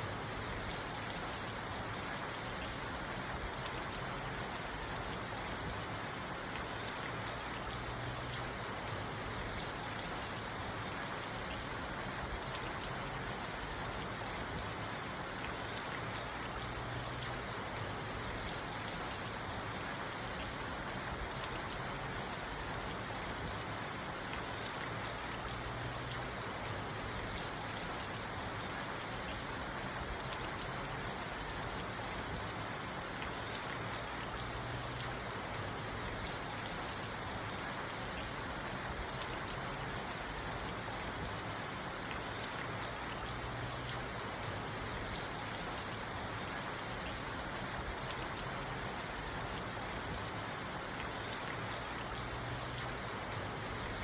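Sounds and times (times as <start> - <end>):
rain pattering on car roof: 0.3 - 54.0.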